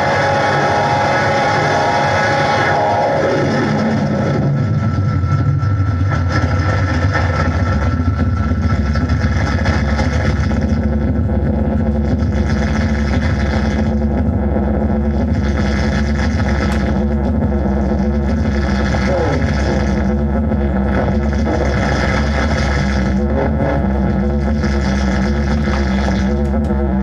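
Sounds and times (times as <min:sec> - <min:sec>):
low drone rumble: 0:00.0 - 0:27.0.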